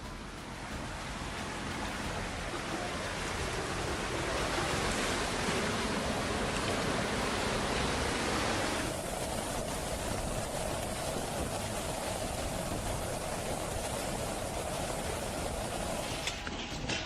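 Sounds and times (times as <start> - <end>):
heavy rainstorm: 0.0 - 16.5.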